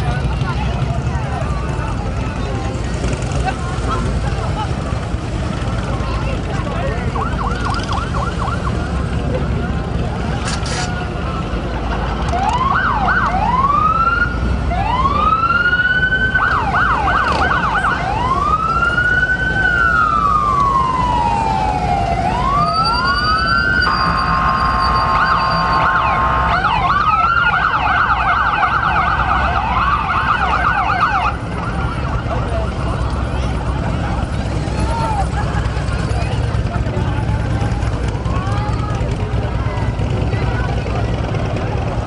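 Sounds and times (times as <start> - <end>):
emergency vehicle sirens: 0.0 - 42.0.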